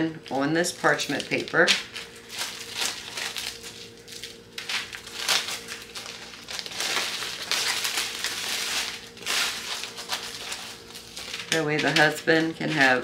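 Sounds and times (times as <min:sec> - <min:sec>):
faint steady hum: 0:00.0 - 0:13.0
paper crinkling and rustling: 0:00.1 - 0:13.0.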